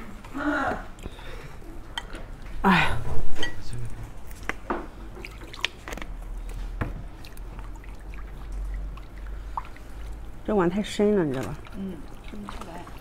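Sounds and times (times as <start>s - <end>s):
wet mixing sounds: 0.0s - 13.0s.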